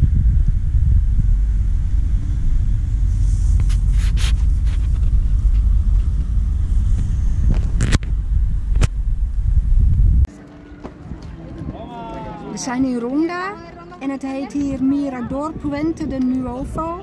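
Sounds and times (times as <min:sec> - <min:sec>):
wind buffeting microphone: 0:00.0 - 0:10.3, 0:11.0 - 0:17.0.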